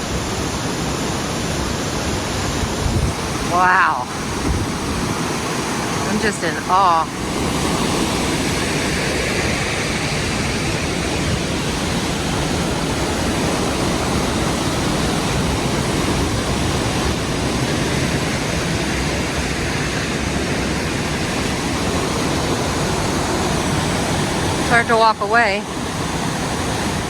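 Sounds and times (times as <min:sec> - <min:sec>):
waterfall rushing over rock: 0:00.0 - 0:27.0.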